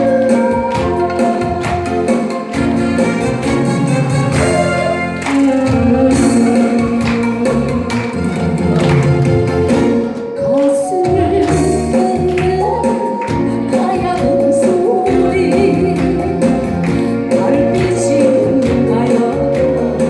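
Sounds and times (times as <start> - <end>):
instrumental accompaniment with beat: 0.0 - 20.0.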